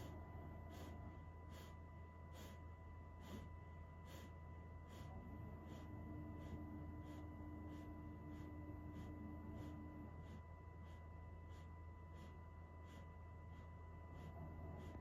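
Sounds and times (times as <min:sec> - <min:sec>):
faint steady tones: 0:00.0 - 0:15.0
low electrical hum: 0:00.0 - 0:15.0.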